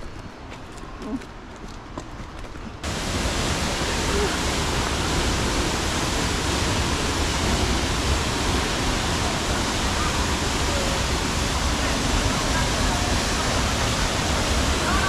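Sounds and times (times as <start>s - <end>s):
rocky stream: 0.0s - 15.0s
waterfall rushing: 2.8s - 15.0s.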